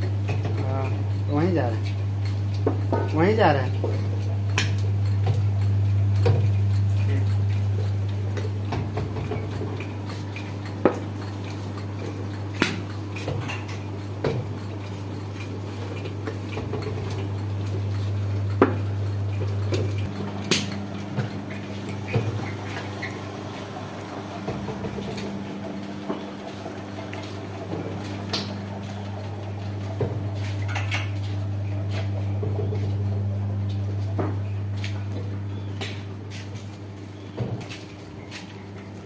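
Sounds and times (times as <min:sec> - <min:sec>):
machinery electric hum: 0:00.0 - 0:39.0.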